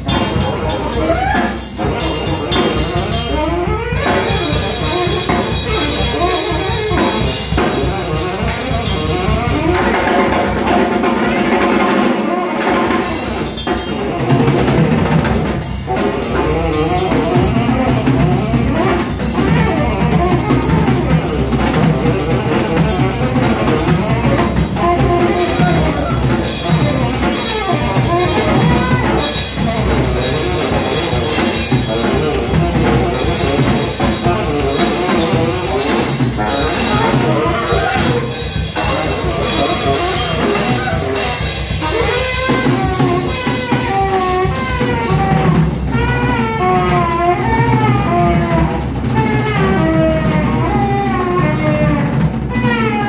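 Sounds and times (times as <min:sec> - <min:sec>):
drum kit with cymbals: 0:00.0 - 0:53.0
tenor saxophone playing jazz: 0:00.0 - 0:53.0.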